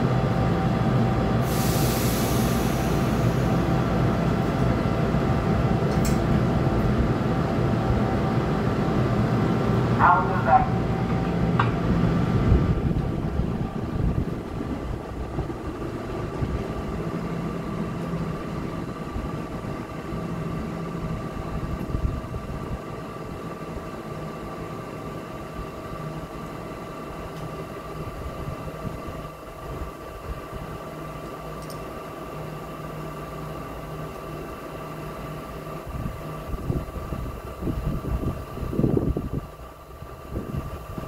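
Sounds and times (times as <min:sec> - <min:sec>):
train rumbling on rails: 0:00.0 - 0:41.0
train whine: 0:00.0 - 0:41.0.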